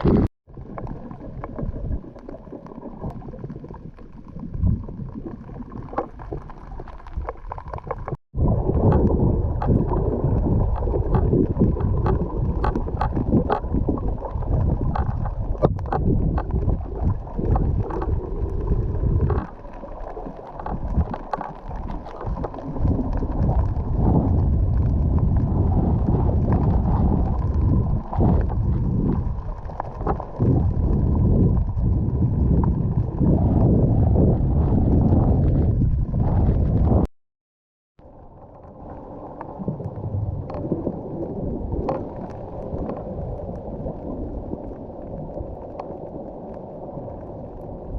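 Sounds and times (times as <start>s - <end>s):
muffled underwater sloshing and bubbling: 0.0s - 37.1s, 38.0s - 47.9s.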